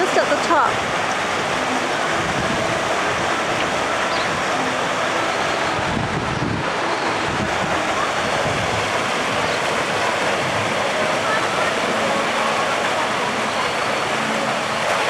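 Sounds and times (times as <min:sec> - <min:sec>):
wind buffeting microphone: 0:00.0 - 0:14.9
faint distant voices: 0:00.0 - 0:15.0
water rushing and splashing: 0:00.0 - 0:15.0.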